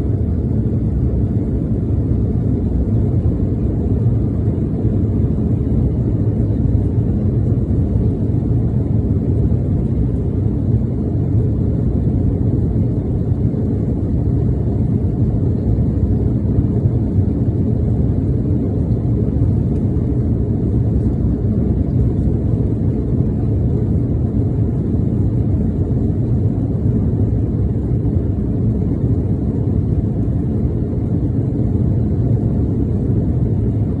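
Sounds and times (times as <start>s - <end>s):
airliner jet engines rumbling: 0.0s - 34.0s.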